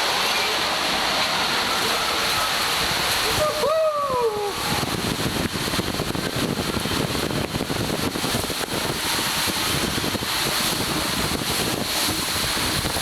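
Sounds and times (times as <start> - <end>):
falling and splashing water: 0.0 - 13.0.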